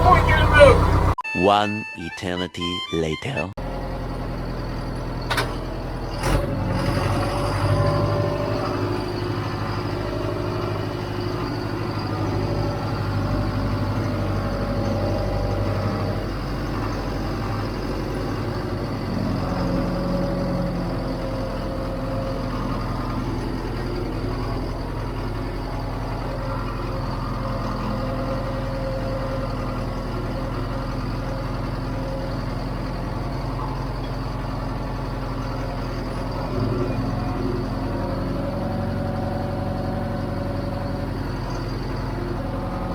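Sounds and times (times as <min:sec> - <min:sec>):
diesel engine idling: 0:00.0 - 0:01.3, 0:03.6 - 0:42.9.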